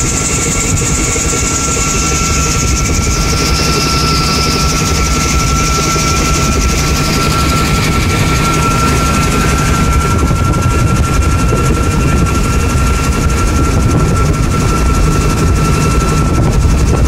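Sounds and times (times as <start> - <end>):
thin high whine: 0.0 - 16.9
helicopter engine and rotor: 0.0 - 17.0.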